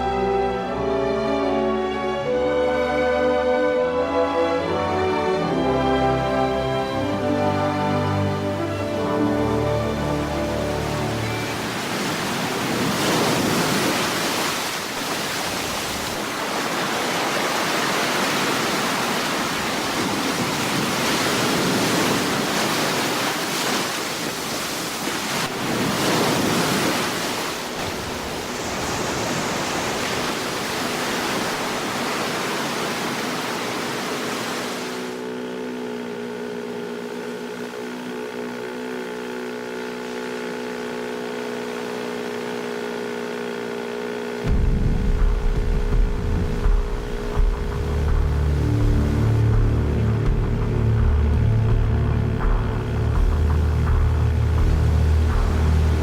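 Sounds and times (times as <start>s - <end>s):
boat engine drone: 0.0s - 56.0s
sea surf washing: 3.7s - 42.2s, 44.4s - 56.0s.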